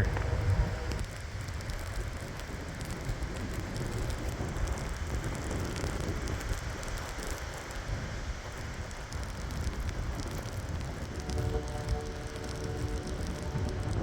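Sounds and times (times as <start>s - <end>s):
crackle of wind-driven snow: 0.0s - 14.0s
strong gusting wind: 0.0s - 14.0s.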